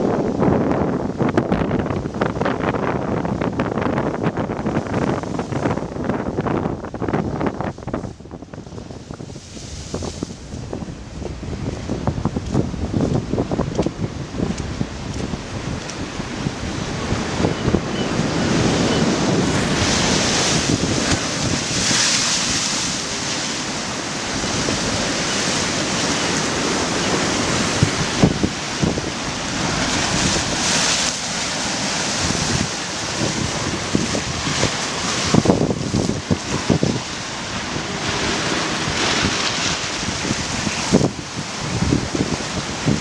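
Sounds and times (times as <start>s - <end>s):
wind buffeting microphone: 0.0s - 43.0s
waves breaking: 3.5s - 43.0s.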